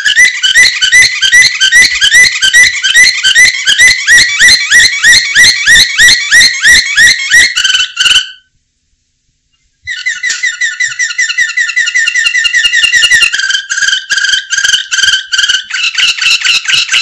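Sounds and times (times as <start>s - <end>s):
canary singing whistled notes: 0.0s - 8.5s, 9.8s - 17.0s.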